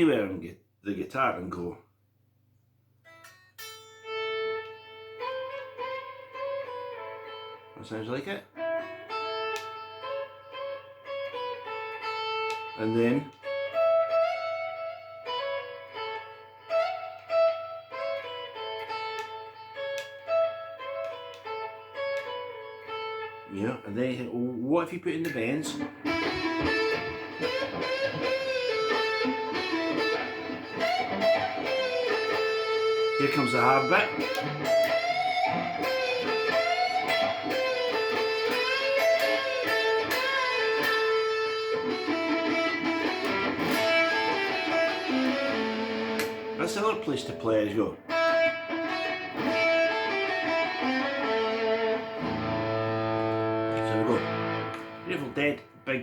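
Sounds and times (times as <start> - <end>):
guitar lead line: 3.0 - 56.0.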